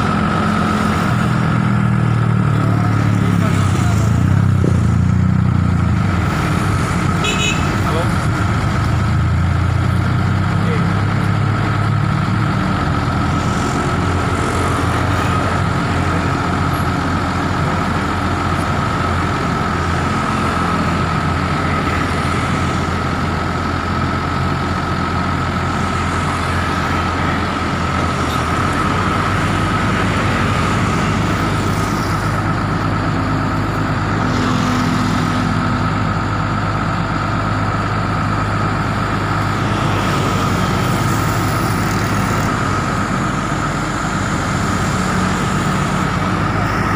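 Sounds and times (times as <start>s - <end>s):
diesel engine running: 0.0s - 46.9s
steady high whine: 0.0s - 46.9s.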